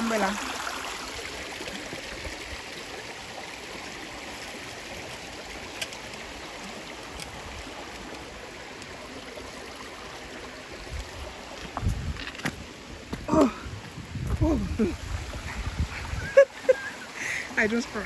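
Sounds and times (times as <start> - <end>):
river water running: 0.0 - 18.0.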